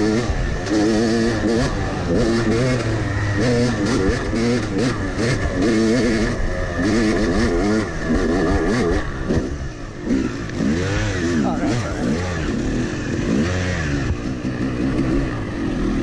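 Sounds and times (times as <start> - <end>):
two-stroke dirt bike engine revving: 0.0 - 16.0.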